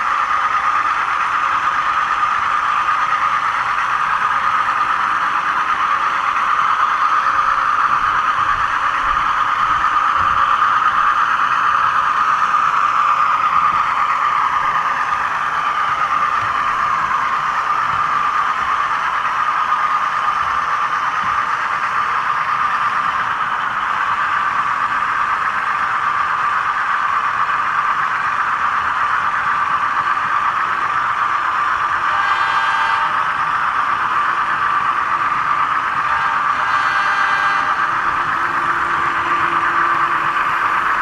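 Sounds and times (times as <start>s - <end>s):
model train motor whine: 0.0s - 41.0s.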